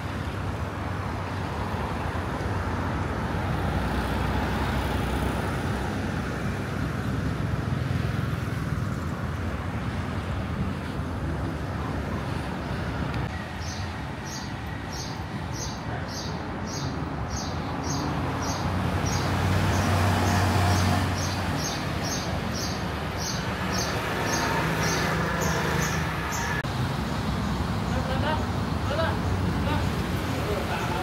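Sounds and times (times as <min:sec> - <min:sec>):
street traffic: 0:00.0 - 0:31.0
vehicle passing: 0:01.3 - 0:31.0.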